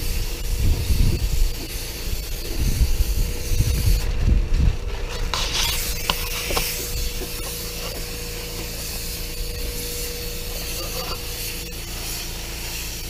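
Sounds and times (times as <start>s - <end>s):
paint spray gun hissing: 0.0s - 4.0s, 5.3s - 13.0s
steady hum: 0.0s - 13.0s.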